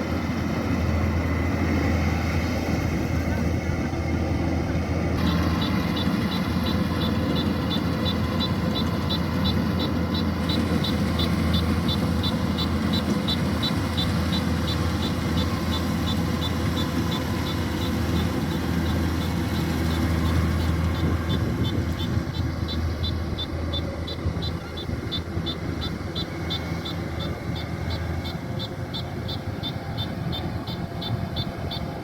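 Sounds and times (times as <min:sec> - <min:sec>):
combine harvester diesel engine droning: 0:00.0 - 0:32.0.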